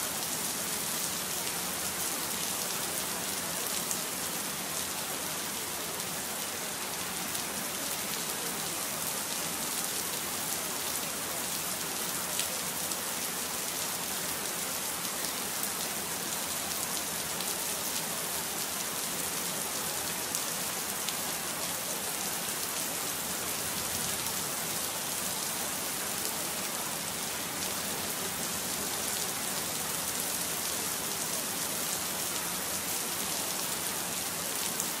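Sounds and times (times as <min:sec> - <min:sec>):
steady rain hiss: 0:00.0 - 0:35.0.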